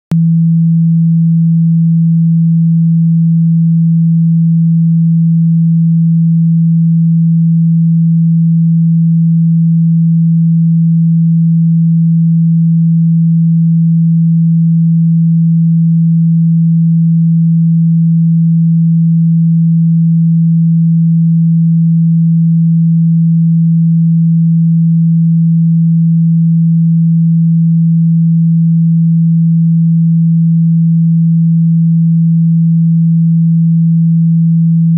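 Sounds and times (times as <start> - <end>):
low sine-wave test tone: 0.1 - 34.9.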